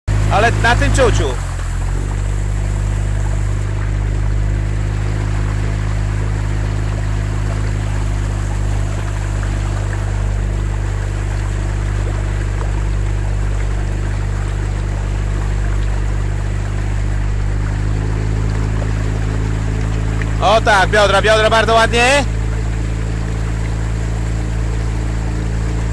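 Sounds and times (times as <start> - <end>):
outboard motor droning: 0.0 - 25.9
water rushing past hull: 0.1 - 25.9.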